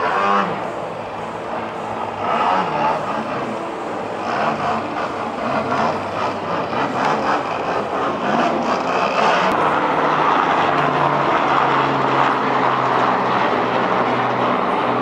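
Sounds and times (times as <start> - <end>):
model airplane engine: 0.0 - 15.0.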